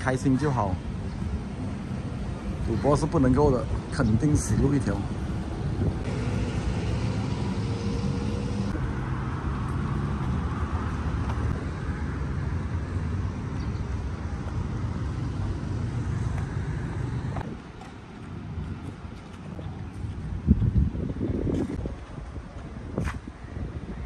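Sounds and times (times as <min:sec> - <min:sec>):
motor engine rumbling: 0:00.7 - 0:23.9.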